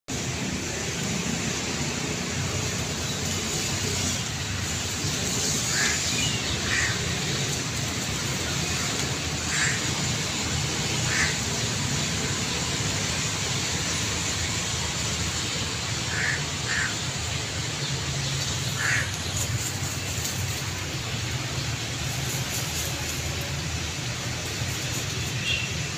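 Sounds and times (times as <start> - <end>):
outdoor background rumble: 0.1 - 25.9.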